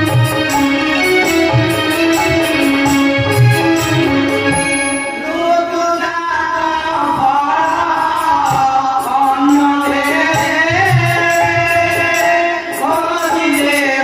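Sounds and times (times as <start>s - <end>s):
steady percussion beat: 0.0s - 5.5s, 7.0s - 14.0s
sustained instrumental accompaniment: 0.0s - 14.0s.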